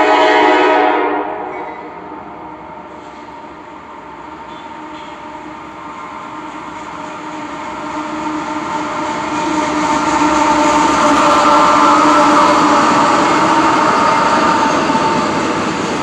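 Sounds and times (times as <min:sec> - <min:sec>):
freight train rumble: 0:00.0 - 0:16.0.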